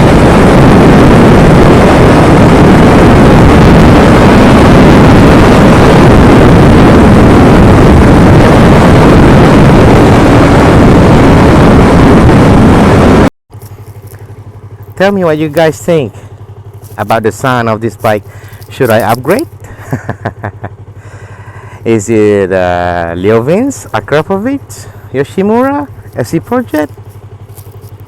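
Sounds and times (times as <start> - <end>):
dense rushing noise: 0.0 - 19.9, 20.8 - 28.0
motorcycle engine running: 0.0 - 28.0.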